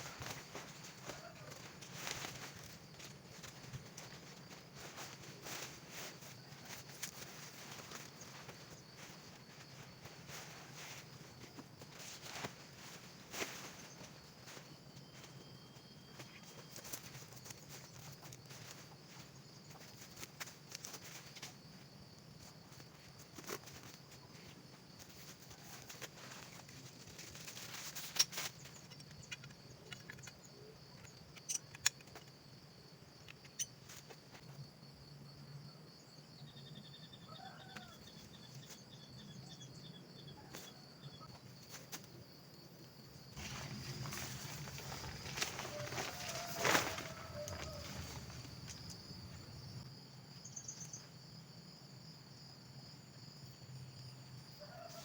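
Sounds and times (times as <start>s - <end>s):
forest insects chorus: 0.0s - 55.0s.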